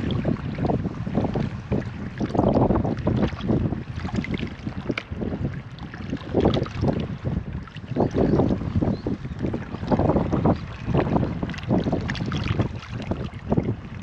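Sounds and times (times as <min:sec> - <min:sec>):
seawater sloshing in rock crevice: 0:00.0 - 0:14.0
wind buffeting microphone: 0:00.0 - 0:14.0.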